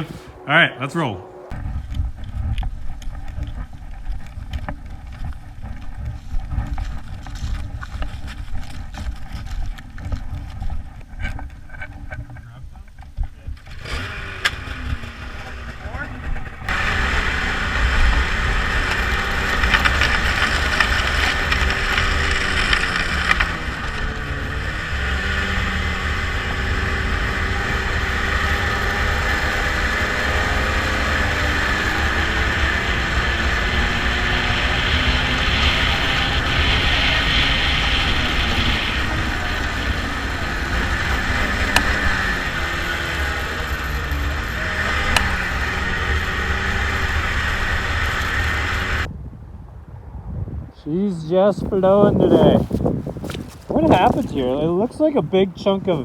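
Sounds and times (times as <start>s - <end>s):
vehicle engine rumbling: 0.0s - 49.1s, 50.8s - 56.0s
wind or road noise: 0.0s - 56.0s.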